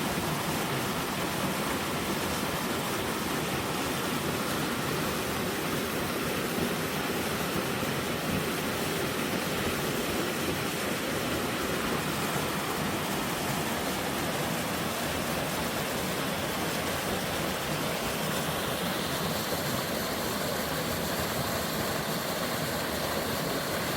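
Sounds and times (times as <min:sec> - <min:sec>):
mountain stream rushing: 0:00.0 - 0:23.9.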